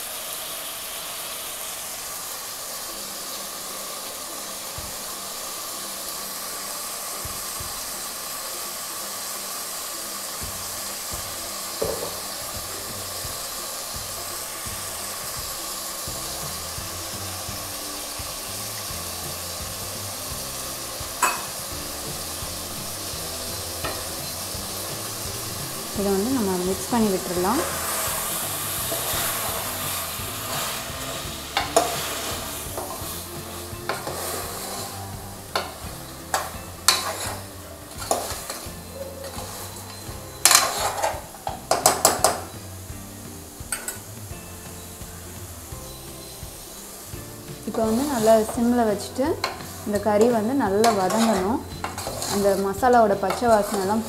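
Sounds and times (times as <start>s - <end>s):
chicken sizzling in a pan: 0.0s - 54.0s.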